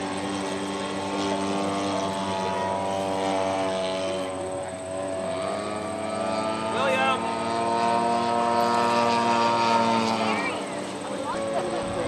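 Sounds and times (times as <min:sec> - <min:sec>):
model airplane engines running: 0:00.0 - 0:12.0.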